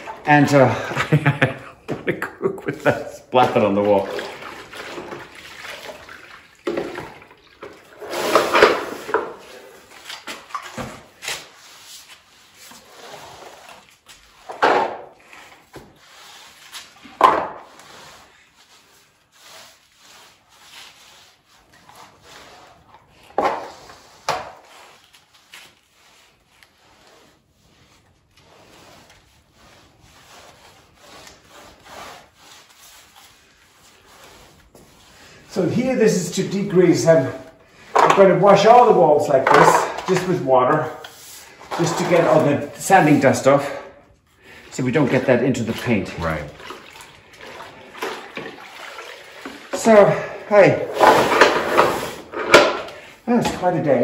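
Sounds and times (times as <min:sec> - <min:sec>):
mop scrubbing stucco wall: 0:00.0 - 0:54.0.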